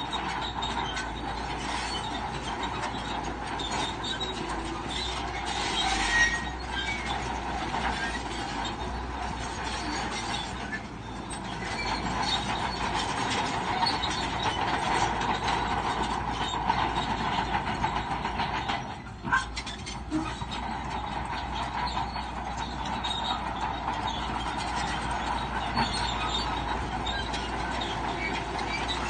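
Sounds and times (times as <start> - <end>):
diesel engine under load: 0.0 - 29.0
steel tracks clanking and squealing: 0.0 - 29.0.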